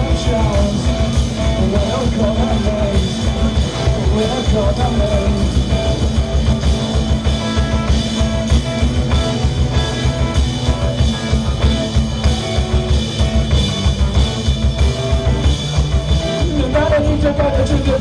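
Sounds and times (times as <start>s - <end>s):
bass guitars: 0.0s - 18.0s
drum kit beating steadily: 0.0s - 18.0s
electric guitars droning: 0.0s - 18.0s.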